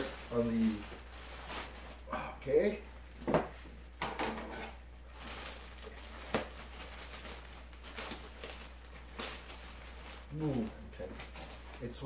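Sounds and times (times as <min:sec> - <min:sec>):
packaging rustling: 0:00.0 - 0:03.3, 0:04.4 - 0:12.0.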